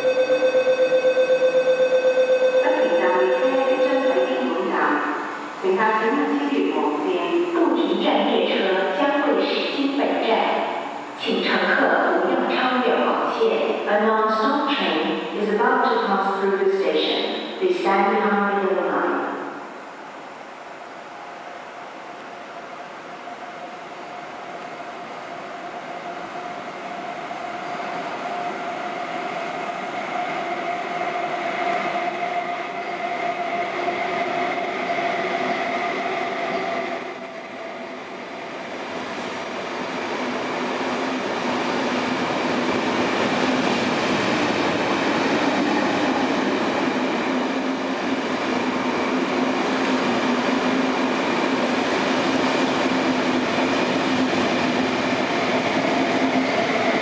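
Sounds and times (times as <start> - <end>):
train passing through station: 0.0 - 57.0.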